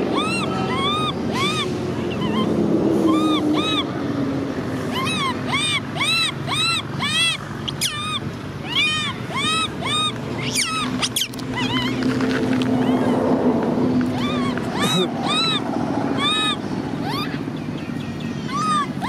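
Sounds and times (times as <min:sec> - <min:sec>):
baby monkey crying: 0:00.0 - 0:04.0, 0:04.8 - 0:17.6, 0:18.4 - 0:19.0.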